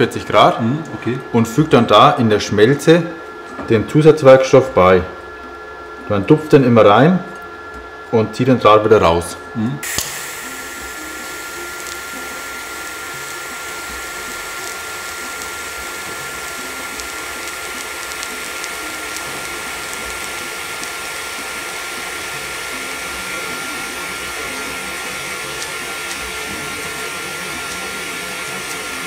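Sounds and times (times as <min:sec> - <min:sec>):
welding arc hiss and whine: 0:00.0 - 0:29.0.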